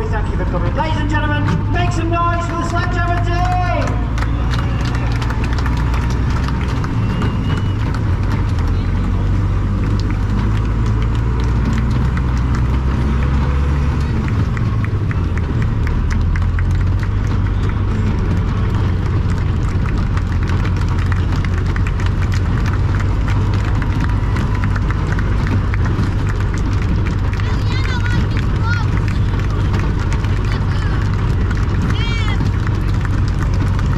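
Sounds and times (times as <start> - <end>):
tractor engine at low revs: 0.0 - 33.9.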